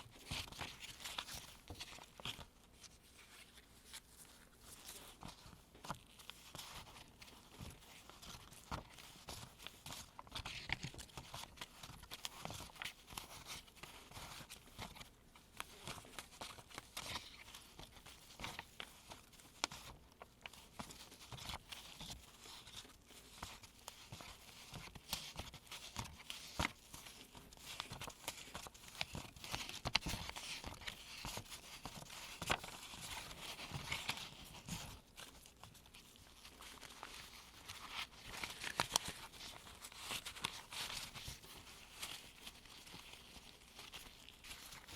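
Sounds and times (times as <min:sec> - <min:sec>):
paper bills rustling: 0:00.1 - 0:44.9.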